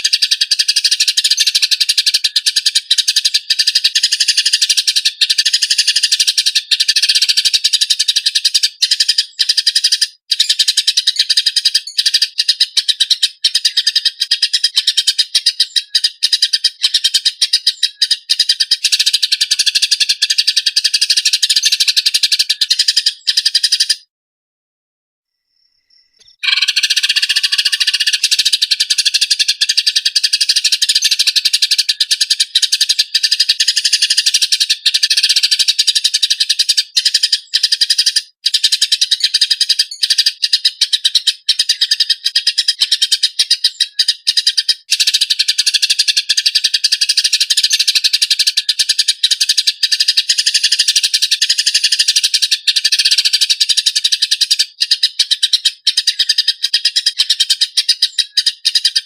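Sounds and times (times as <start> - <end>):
sparrows chattering: 0.0 - 24.1, 25.6 - 59.0.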